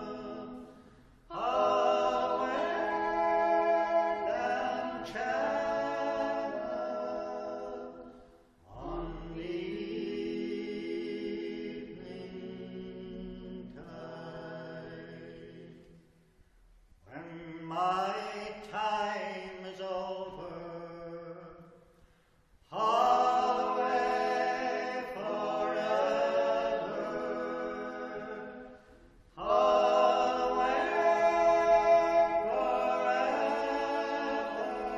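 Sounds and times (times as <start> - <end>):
group singing in harmony: 0.0 - 16.0, 22.7 - 34.9.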